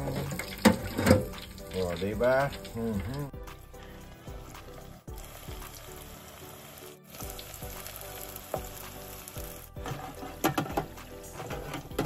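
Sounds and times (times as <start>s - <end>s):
oil bubbling and sizzling: 0.0s - 12.0s.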